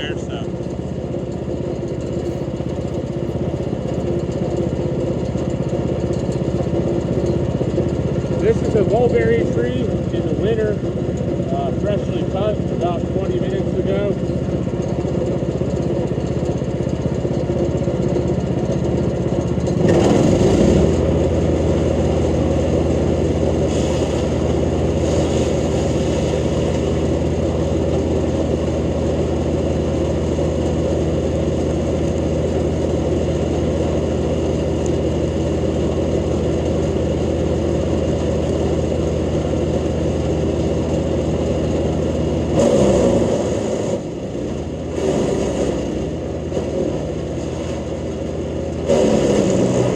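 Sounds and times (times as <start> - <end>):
wood chipper chipping branches: 0.0 - 49.9.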